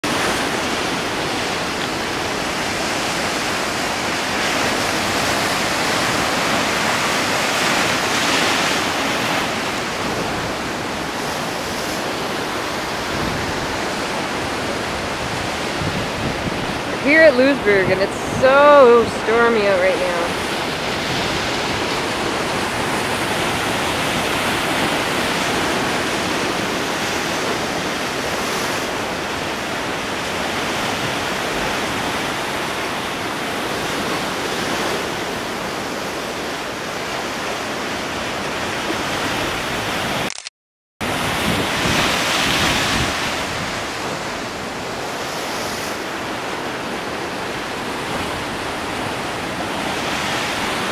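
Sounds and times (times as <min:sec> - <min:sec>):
heavy surf on rocky shore: 0:00.0 - 0:40.3, 0:41.0 - 0:50.9.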